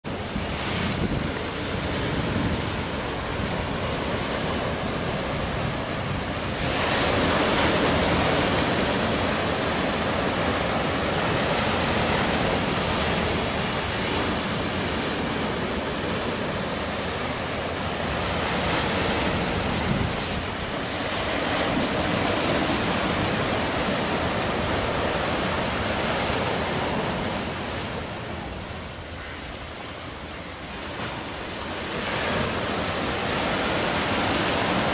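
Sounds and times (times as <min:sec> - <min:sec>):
surf breaking on rocks: 0:00.1 - 0:28.8, 0:30.7 - 0:34.9.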